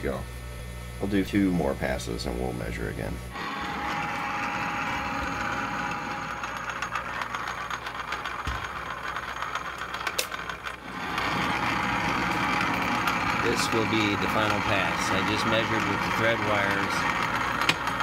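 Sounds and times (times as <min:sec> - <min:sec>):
lathe running: 0:03.3 - 0:18.0.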